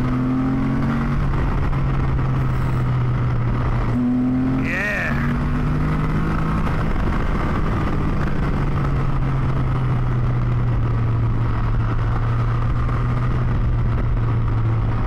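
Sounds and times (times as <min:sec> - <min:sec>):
engine running at cruise: 0:00.0 - 0:15.0
wind and road rush: 0:00.0 - 0:15.0.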